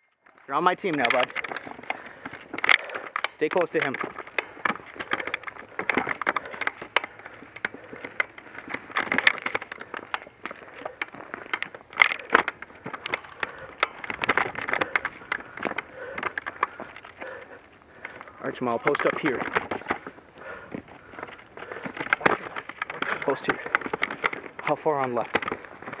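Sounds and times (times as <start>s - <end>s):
footsteps crunching through dry brush: 0.3s - 26.0s
twigs snapping: 0.4s - 26.0s.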